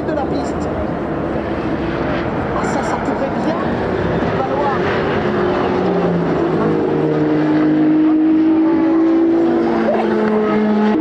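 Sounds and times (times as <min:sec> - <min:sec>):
racing car engines: 0:00.0 - 0:11.0.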